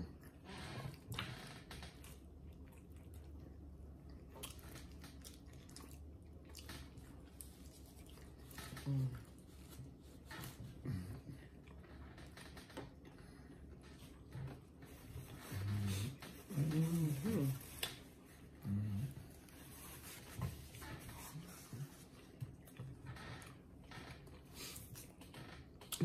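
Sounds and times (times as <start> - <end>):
people chewing: 0.1 - 26.0.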